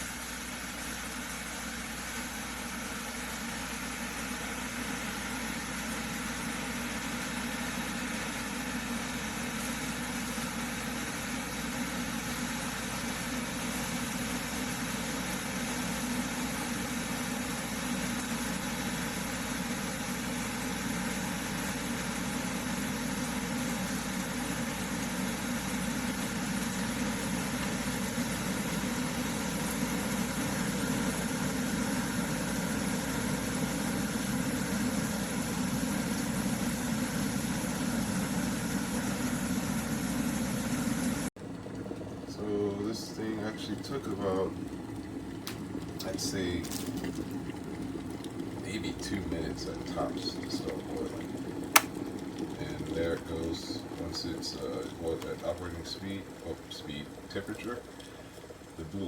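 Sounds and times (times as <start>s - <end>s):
electric kettle heating water: 0.0s - 59.0s.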